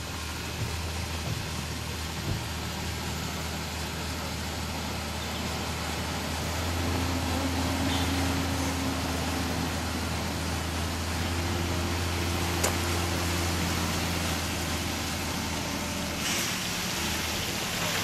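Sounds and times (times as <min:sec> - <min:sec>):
car engine running under load: 0:00.0 - 0:18.0.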